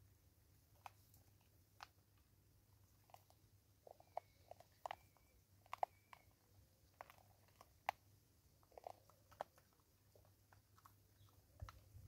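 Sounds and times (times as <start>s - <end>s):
monkey chewing and cracking seed: 0.7s - 12.0s.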